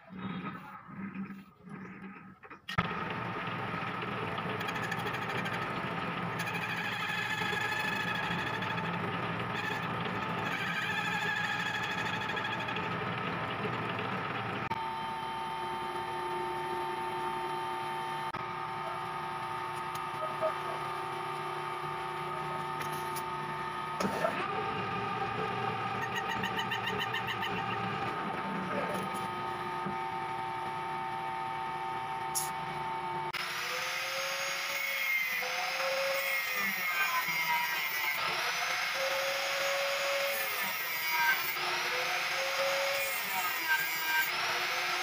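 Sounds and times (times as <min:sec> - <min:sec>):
metal lathe running: 0:02.7 - 0:45.0.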